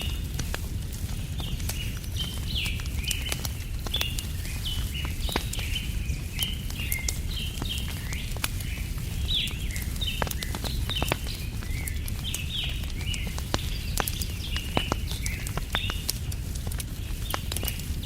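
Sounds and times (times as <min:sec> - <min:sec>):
steady low rumble: 0:00.0 - 0:18.0
wood fire crackling: 0:00.0 - 0:18.0
birds chirping: 0:01.2 - 0:18.0.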